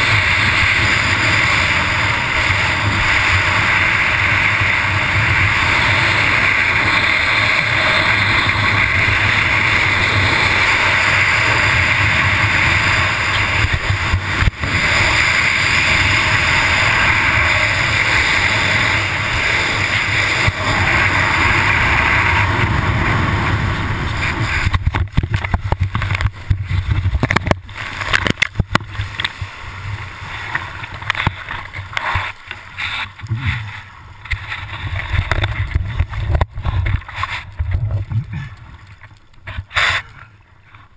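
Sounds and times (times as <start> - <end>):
wind rushing on microphone: 0.0 - 32.0, 33.1 - 38.8.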